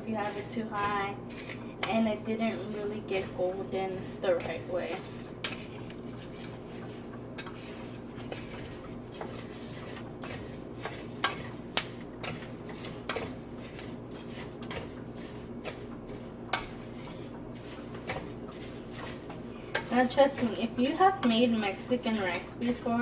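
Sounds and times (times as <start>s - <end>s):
rice frying in oil: 0.0s - 23.0s
steady low hum: 0.0s - 23.0s
utensil scraping a frying pan: 0.0s - 23.0s.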